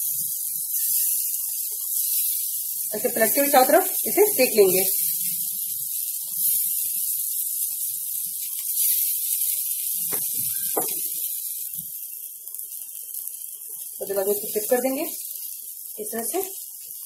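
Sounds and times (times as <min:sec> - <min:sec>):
skewers sizzling in a pan: 0:00.0 - 0:17.0.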